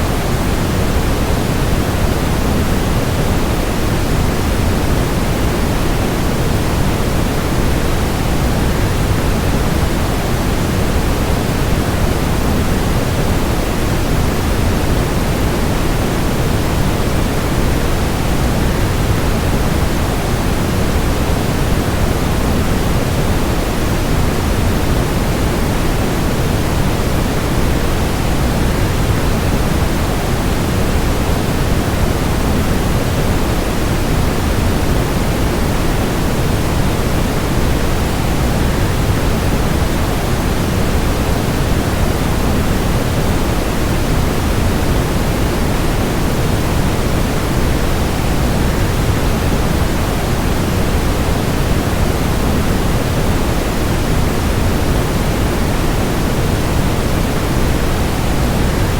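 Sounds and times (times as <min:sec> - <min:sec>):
white noise: 0:00.0 - 0:58.9.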